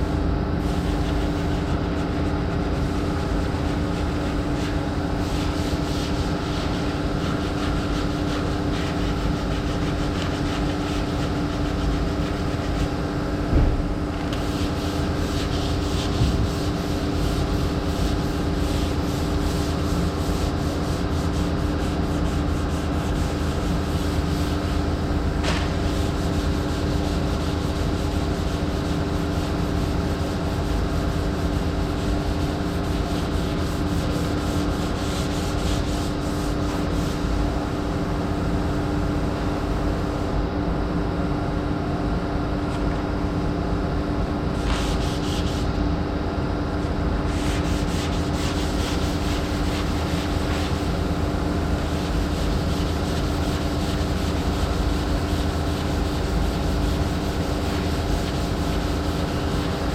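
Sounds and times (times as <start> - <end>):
power sander rubbing a panel: 0.7 - 13.2, 14.2 - 40.1, 44.5 - 45.8, 47.2 - 59.9.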